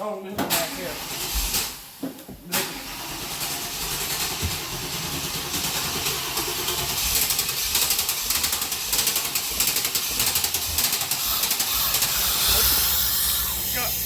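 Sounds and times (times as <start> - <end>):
rapid irregular engine clicking: 0.5 - 1.9, 2.5 - 14.0
car engine humming: 2.7 - 14.0.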